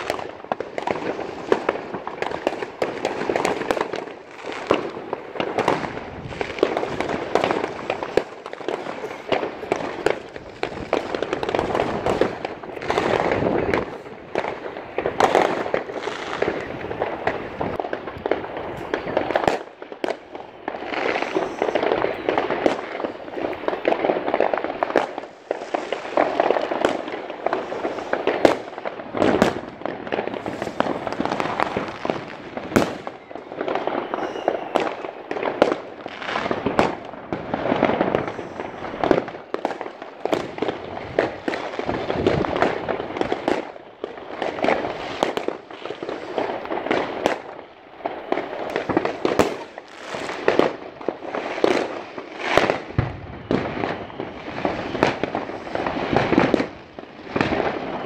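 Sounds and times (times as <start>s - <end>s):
firecrackers crackling: 0.0s - 58.0s
fireworks sharp bangs: 0.0s - 58.0s.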